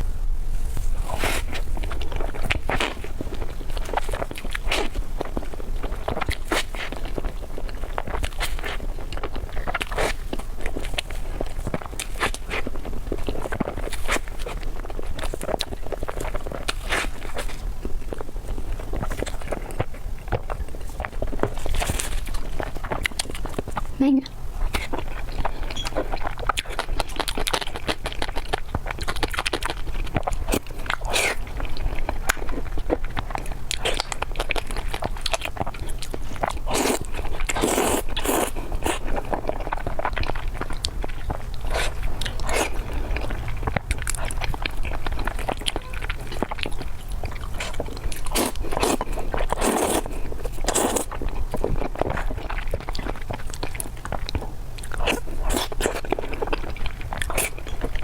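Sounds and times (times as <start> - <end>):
biting and chewing food: 0.0 - 58.0
steady low hum: 0.0 - 58.0.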